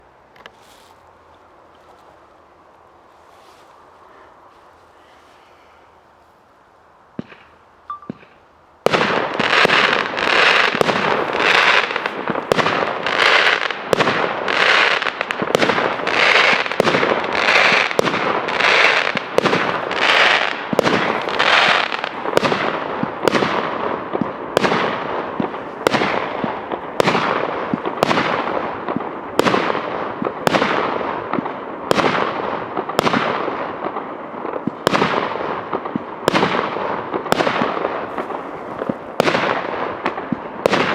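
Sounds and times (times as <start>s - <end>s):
constant hiss: 0.0s - 40.9s
fireworks cake firing shots: 8.1s - 40.9s.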